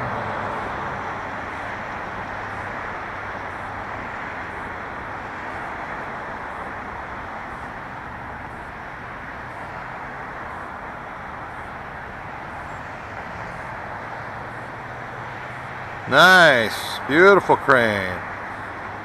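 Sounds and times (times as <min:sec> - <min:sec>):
road traffic hiss and rumble: 0:00.0 - 0:19.0.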